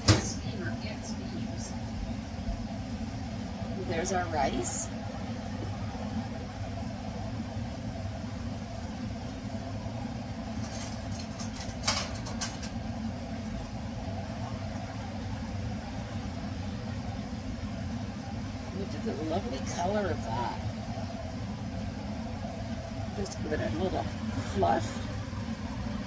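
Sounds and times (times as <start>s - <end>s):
exhaust fan humming: 0.0s - 26.0s.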